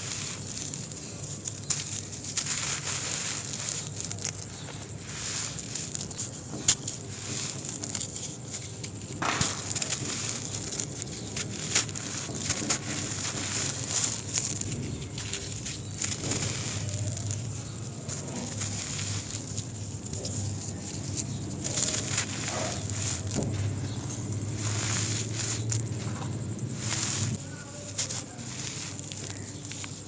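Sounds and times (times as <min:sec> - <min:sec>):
hands crumbling dry cement lumps: 0:00.0 - 0:30.0.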